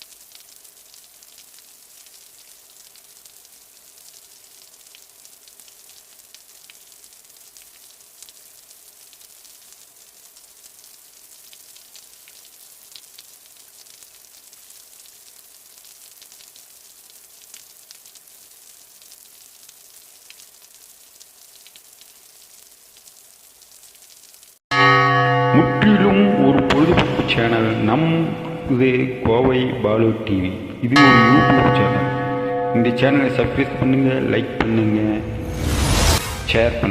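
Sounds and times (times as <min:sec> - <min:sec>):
light rain falling: 0:00.0 - 0:36.5.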